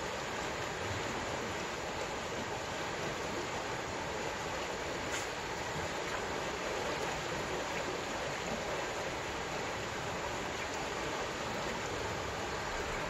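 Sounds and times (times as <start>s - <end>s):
river water rushing past rocks: 0.0s - 13.0s.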